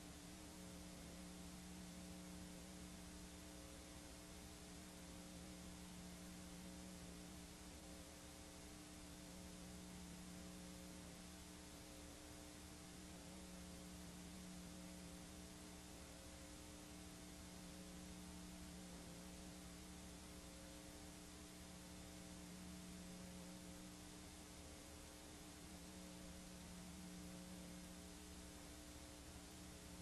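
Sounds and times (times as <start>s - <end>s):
tape hiss: 0.0s - 30.0s.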